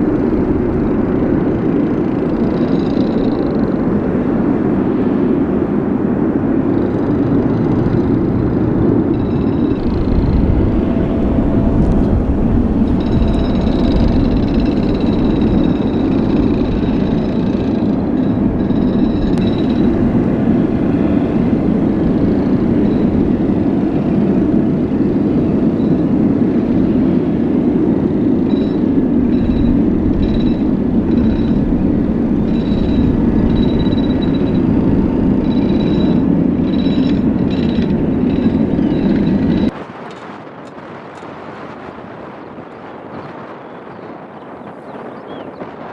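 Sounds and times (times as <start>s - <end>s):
faint high whine: 0.0s - 39.8s
jet engines running: 0.0s - 45.9s.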